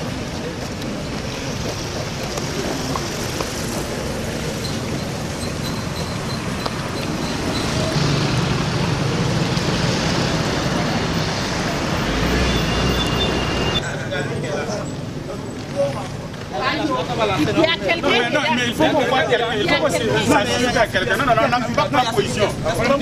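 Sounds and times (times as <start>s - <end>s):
road traffic rushing hum: 0.0s - 23.0s.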